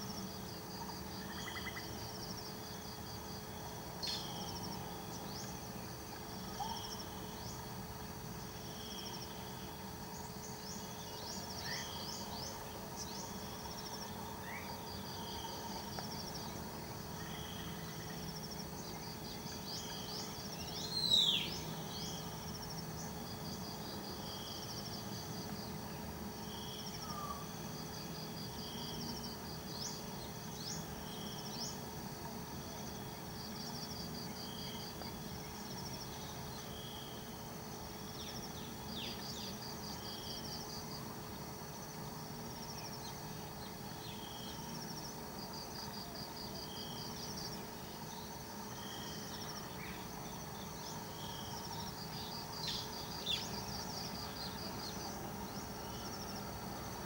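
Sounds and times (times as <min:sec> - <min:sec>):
faint steady hum: 0:00.0 - 0:57.0
insects trilling: 0:00.0 - 0:57.0.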